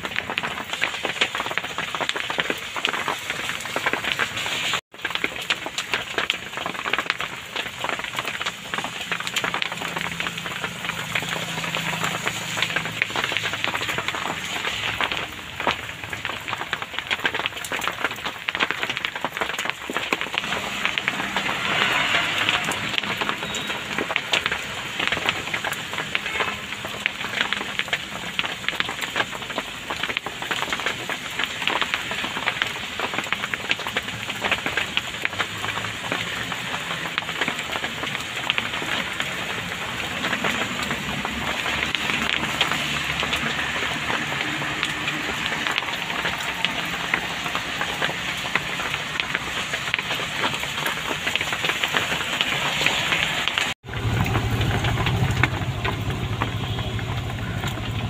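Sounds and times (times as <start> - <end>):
heavy rain on a vehicle roof: 0.0 - 58.0.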